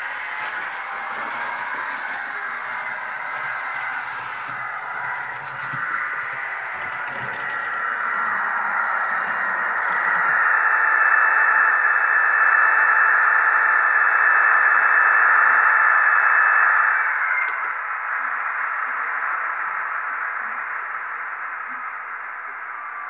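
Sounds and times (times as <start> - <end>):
model train diesel engine noise: 0.0 - 23.0.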